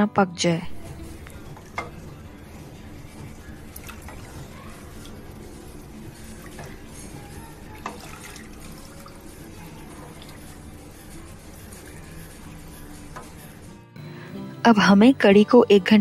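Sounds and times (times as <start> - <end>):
liquid sloshing in pot: 0.7 - 13.8.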